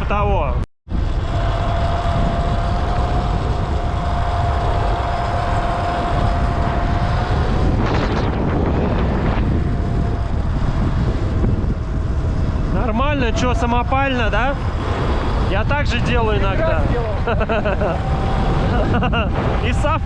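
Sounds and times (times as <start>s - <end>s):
wind buffeting microphone: 0.0s - 20.0s
electric motor whine: 0.9s - 20.0s.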